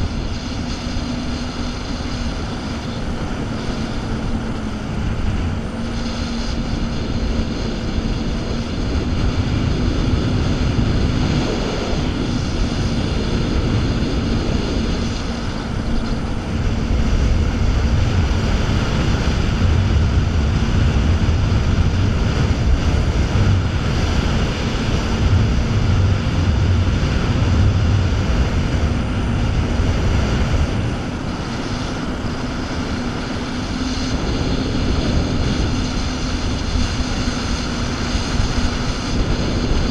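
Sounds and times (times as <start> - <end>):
jet ski engine drone: 0.0 - 39.9
rushing water of wake: 0.0 - 39.9.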